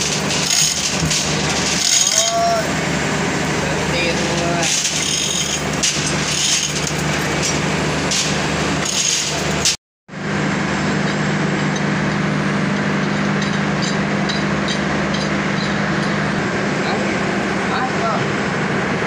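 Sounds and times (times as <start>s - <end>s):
low motor hum: 0.0s - 19.0s
mill machinery running: 0.0s - 19.0s.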